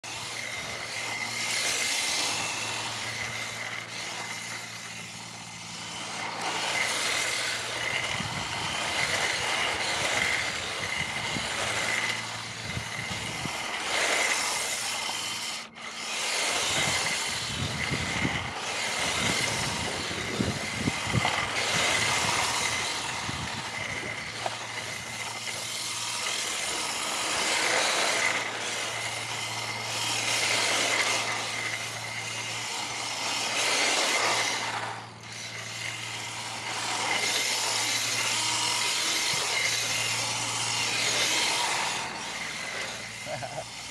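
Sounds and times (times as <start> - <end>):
rc truck motor and gears: 0.0 - 43.9
thin steady whine: 0.0 - 43.9
tyres on asphalt: 0.0 - 43.9.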